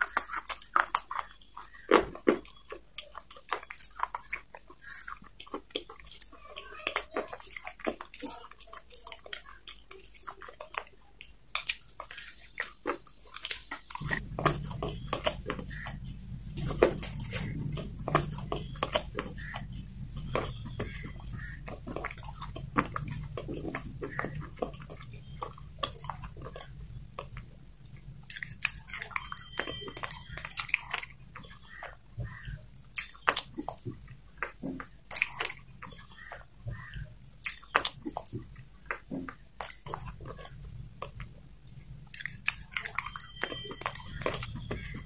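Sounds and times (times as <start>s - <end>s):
wet mouth sounds: 0.0s - 41.4s, 42.1s - 45.0s.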